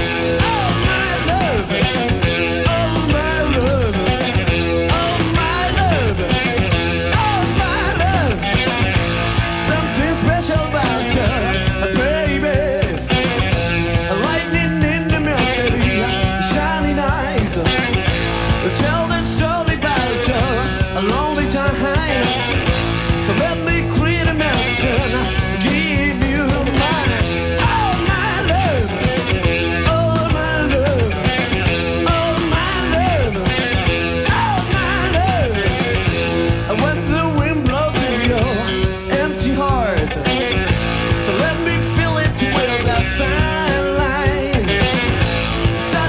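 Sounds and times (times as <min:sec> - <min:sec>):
drums: 0:00.0 - 0:46.0
electric guitar: 0:00.0 - 0:46.0
rock band playing: 0:00.0 - 0:46.0
person singing: 0:00.1 - 0:08.7, 0:09.5 - 0:13.2, 0:14.1 - 0:18.0, 0:23.2 - 0:36.0, 0:36.6 - 0:40.6, 0:41.2 - 0:45.2.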